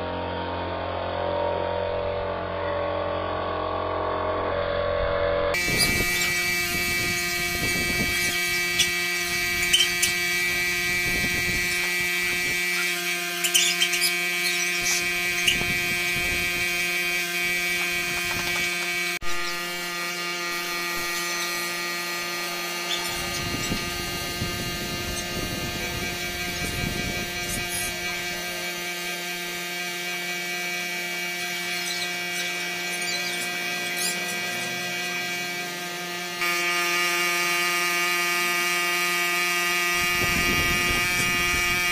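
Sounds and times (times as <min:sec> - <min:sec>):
motor hum: 0:00.0 - 0:41.9.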